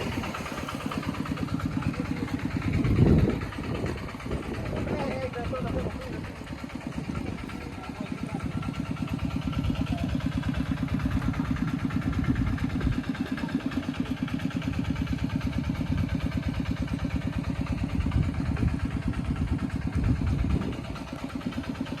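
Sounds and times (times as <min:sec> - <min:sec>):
tractor diesel engine chugging: 0:00.0 - 0:22.0.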